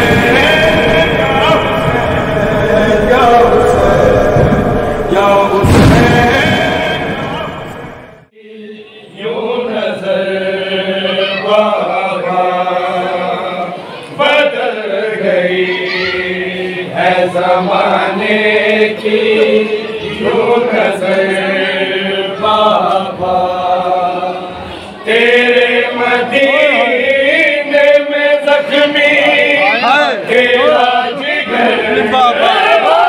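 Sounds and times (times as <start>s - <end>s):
men chanting a lament: 0.0s - 7.6s, 8.3s - 33.0s.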